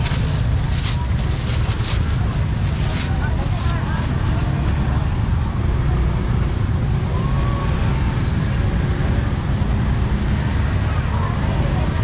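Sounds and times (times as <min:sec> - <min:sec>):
market bustle: 0:00.0 - 0:12.0
road traffic rumble: 0:00.0 - 0:12.0.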